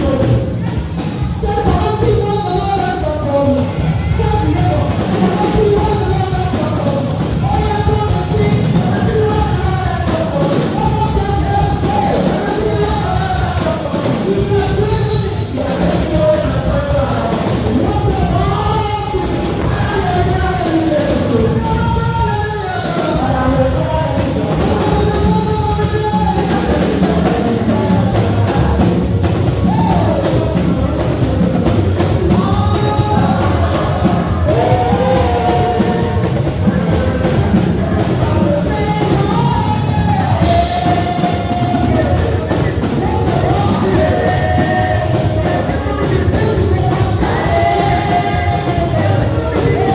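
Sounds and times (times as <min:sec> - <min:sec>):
band with drums and bass: 0:00.0 - 0:49.9
people singing: 0:00.0 - 0:49.9.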